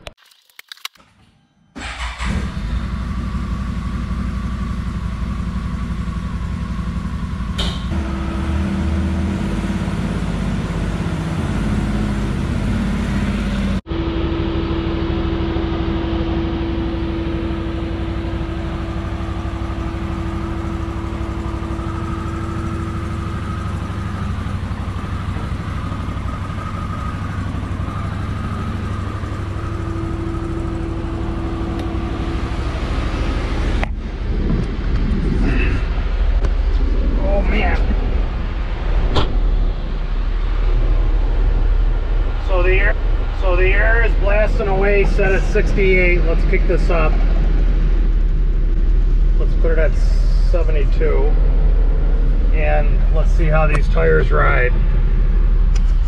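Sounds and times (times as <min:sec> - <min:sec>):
engine idling: 0:01.8 - 0:56.0.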